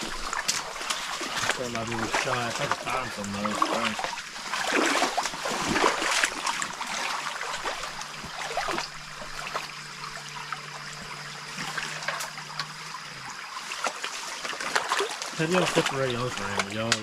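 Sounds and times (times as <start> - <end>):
small water splashes: 0.0 - 17.0
stream trickling over rocks: 0.0 - 17.0.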